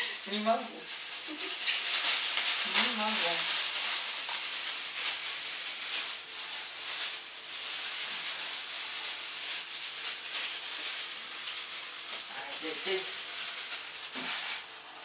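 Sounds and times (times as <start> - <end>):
food sizzling in a pan: 0.0 - 15.0
plastic bag crinkling: 0.0 - 15.0.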